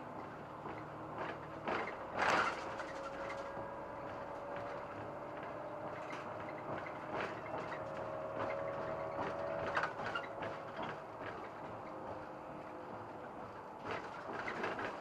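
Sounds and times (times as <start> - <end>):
city bus running: 0.0 - 15.0
rattles and knocks from bus body: 0.0 - 15.0.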